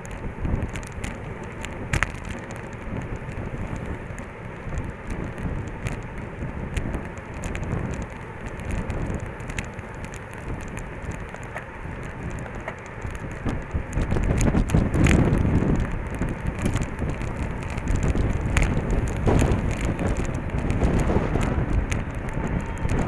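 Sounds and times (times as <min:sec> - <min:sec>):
bicycle clicks and rattles: 0:00.0 - 0:23.0
tyre and road noise: 0:00.0 - 0:23.0
wind rushing over microphone: 0:00.0 - 0:23.0.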